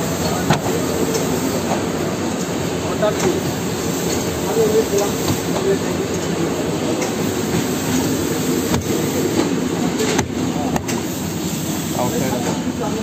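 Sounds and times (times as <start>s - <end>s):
printing press running: 0.0s - 13.0s.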